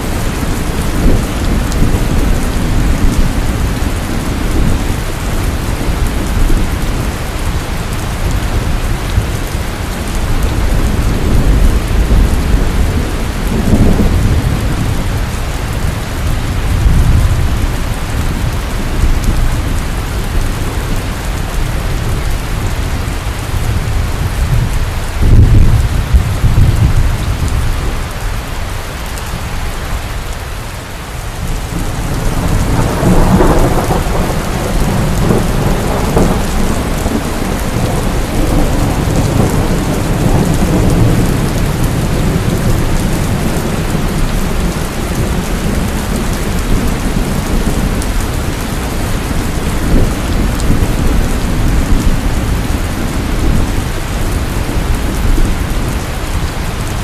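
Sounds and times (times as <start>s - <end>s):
heavy rain pouring: 0.0s - 57.0s
thunder rumbling: 0.0s - 57.0s.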